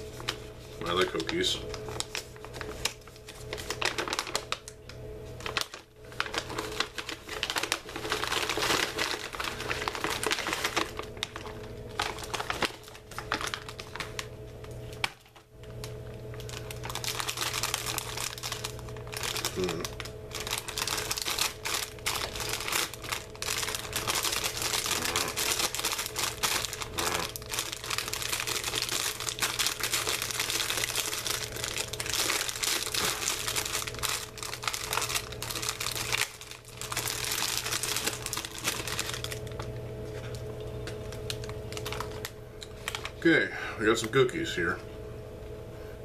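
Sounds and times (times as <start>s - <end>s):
plastic wrapper crinkling: 0.0s - 43.3s.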